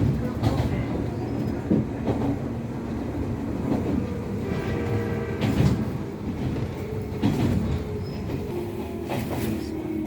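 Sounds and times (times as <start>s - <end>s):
wheels clacking over rail joints: 0.0s - 9.7s
train wheels rumbling on rails: 0.0s - 10.0s.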